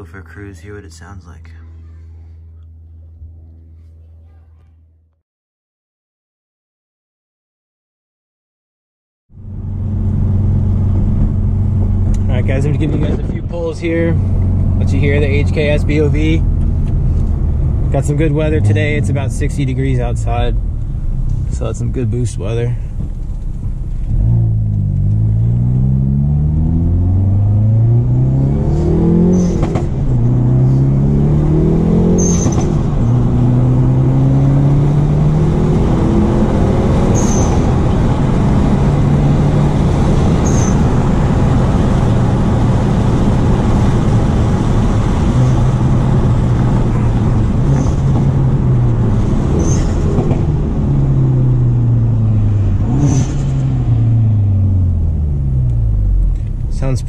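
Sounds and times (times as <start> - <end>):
car engine accelerating hard: 9.4 - 57.0.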